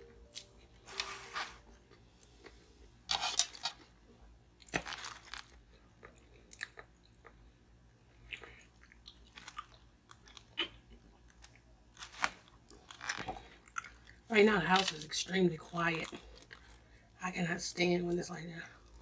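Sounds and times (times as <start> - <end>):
chewing and crunching: 1.7 - 17.2.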